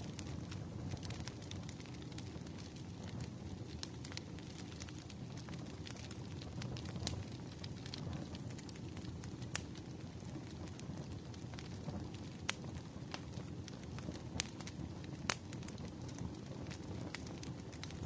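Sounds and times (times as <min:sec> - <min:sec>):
firewood burning and crackling: 0:00.0 - 0:18.0.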